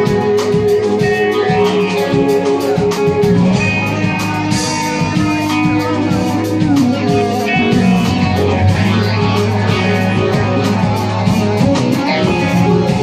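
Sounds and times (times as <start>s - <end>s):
drum kit beat: 0.0s - 13.0s
electric guitars: 0.0s - 13.0s.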